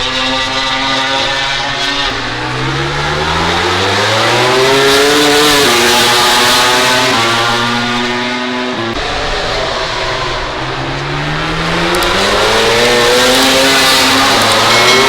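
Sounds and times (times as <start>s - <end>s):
racing motorcycle engines revving: 0.0s - 15.0s.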